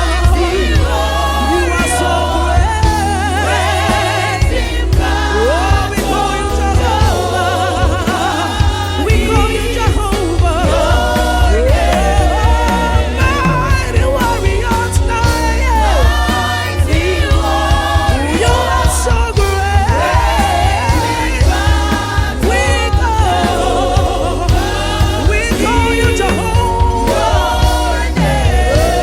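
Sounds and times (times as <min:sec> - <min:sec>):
gospel choir singing: 0:00.0 - 0:29.0
heavy bass line: 0:00.0 - 0:29.0.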